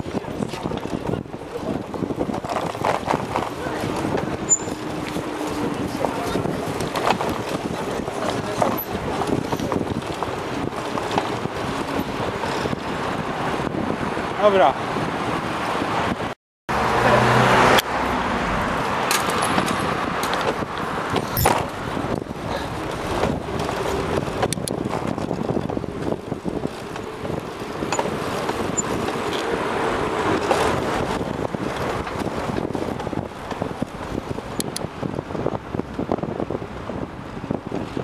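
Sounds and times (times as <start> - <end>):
cars passing: 0.0 - 38.0
city street traffic: 0.0 - 38.0.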